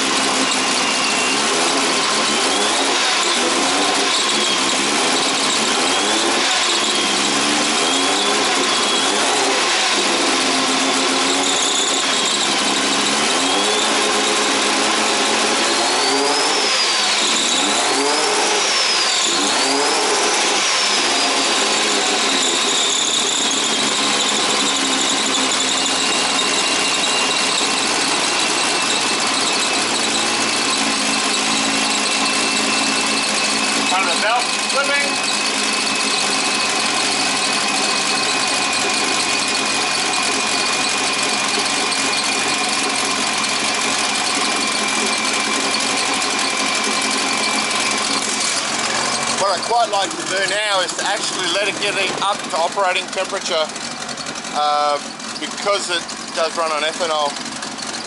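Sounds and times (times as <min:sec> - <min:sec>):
car engine misfiring: 0:00.0 - 0:58.0
engine revving: 0:00.0 - 0:58.0
high belt squeal: 0:00.0 - 0:58.0.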